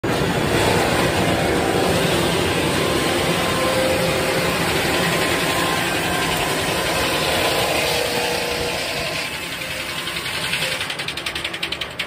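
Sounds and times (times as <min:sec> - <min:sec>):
circular saw mill din: 0:00.0 - 0:12.0.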